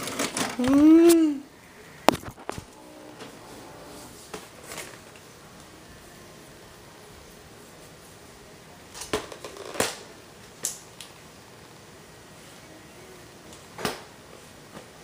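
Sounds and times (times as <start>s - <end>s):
faint steady hiss: 0.1s - 15.0s.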